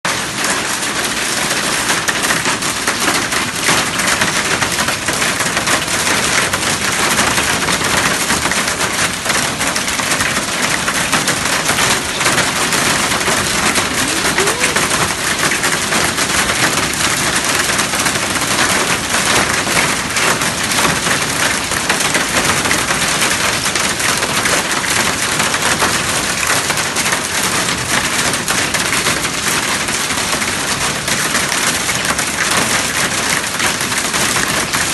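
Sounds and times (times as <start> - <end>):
hail and rain pelting down: 0.1 - 34.9.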